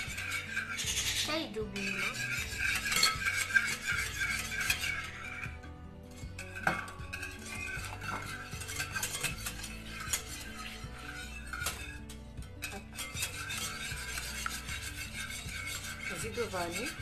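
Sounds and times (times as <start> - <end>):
whisk beating batter in a bowl: 0.0 - 17.0.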